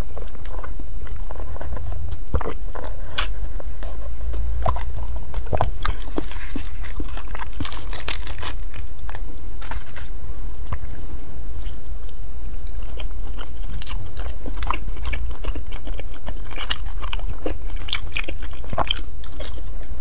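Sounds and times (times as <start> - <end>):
mouth clicks and chewing: 0.0 - 10.0, 11.6 - 20.0
soft crackling of cake: 0.0 - 20.0
steady low hum: 0.0 - 20.0.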